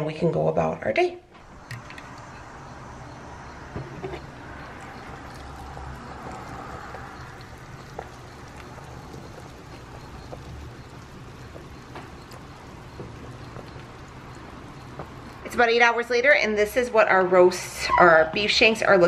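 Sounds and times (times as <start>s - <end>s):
steady low hum: 1.1s - 19.0s
liquid simmering with popping: 1.4s - 16.7s.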